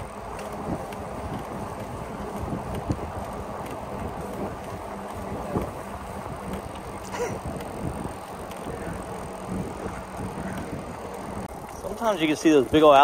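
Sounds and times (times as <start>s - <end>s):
wind noise on microphone: 0.0s - 11.6s
bike tyres rolling on pavement: 0.0s - 13.0s.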